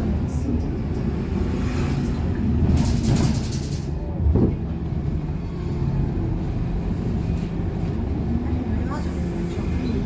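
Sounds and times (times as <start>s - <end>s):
bus engine low rumble: 0.0s - 10.0s.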